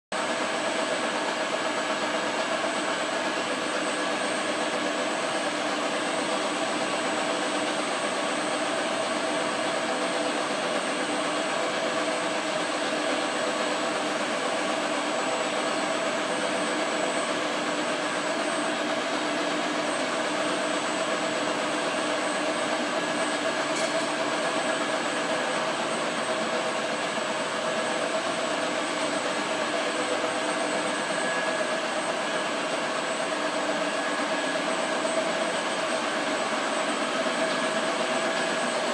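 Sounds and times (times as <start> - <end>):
vacuum pumps droning with high whine: 0.2 - 38.9.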